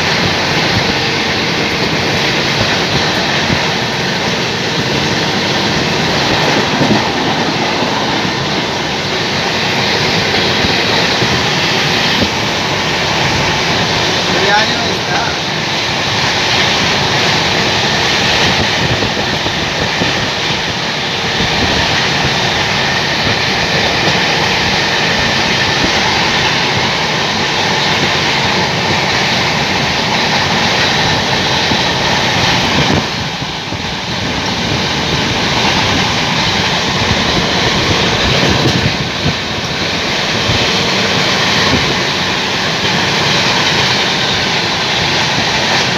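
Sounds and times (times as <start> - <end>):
train rumbling: 0.0 - 45.9
wheels clattering on rails: 0.0 - 45.9.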